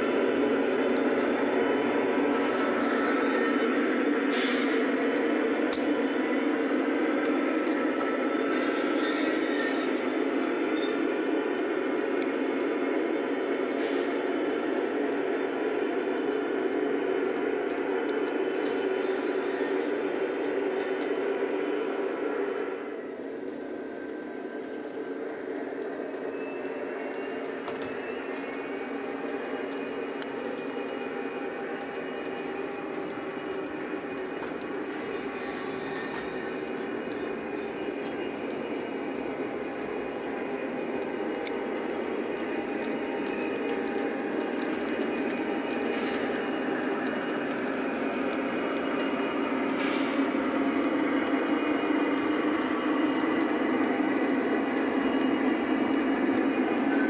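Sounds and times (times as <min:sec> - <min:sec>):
model train locomotive hum: 0:00.0 - 0:57.0
wheels rolling on rails: 0:00.0 - 0:57.0.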